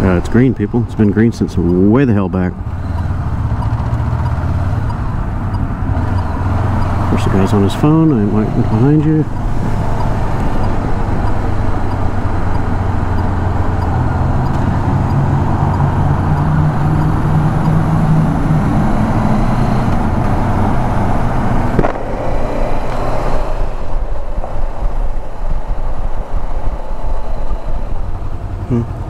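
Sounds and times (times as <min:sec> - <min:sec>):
motorcycle engine under way: 0:00.0 - 0:29.0
road and wind noise: 0:00.0 - 0:29.0.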